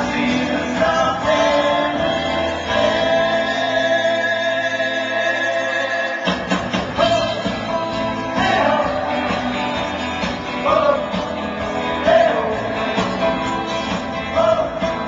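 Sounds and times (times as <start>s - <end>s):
person singing: 0.0s - 9.7s, 10.4s - 13.5s, 14.1s - 15.0s
live rock band playing: 0.0s - 15.0s.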